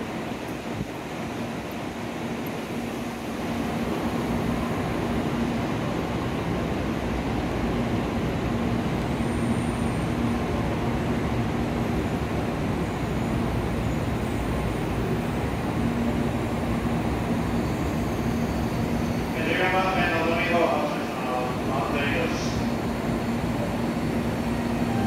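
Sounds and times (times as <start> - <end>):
train equipment rush and hum: 0.0 - 25.0.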